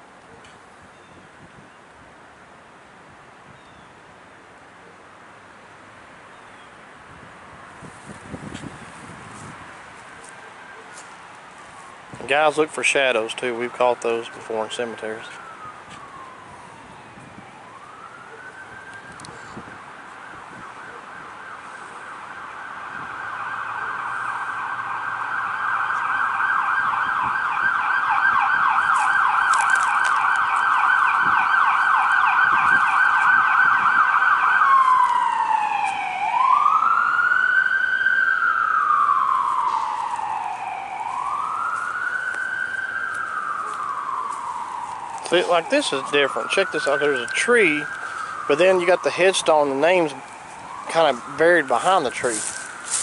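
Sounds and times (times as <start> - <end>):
emergency vehicle siren: 7.8 - 53.0.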